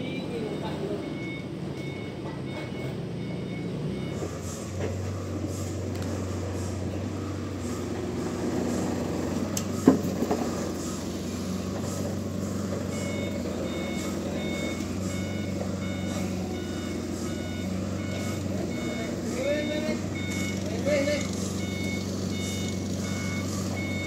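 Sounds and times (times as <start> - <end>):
diesel engine running: 0.0 - 24.0
vehicle reversing alarm beeping: 0.0 - 24.0.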